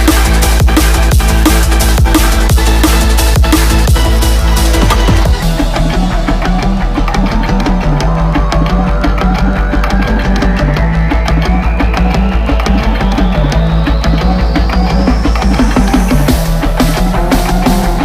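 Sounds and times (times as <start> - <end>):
electronic music with heavy drums: 0.0 - 18.0
rising riser sweep: 0.0 - 18.0.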